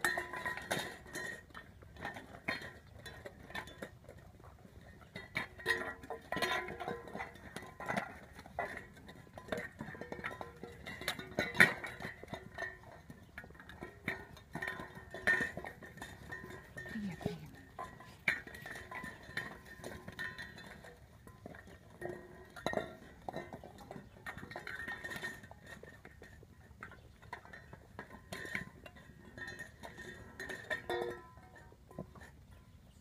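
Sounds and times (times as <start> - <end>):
metal bowls clinking and rattling: 0.0 - 33.0.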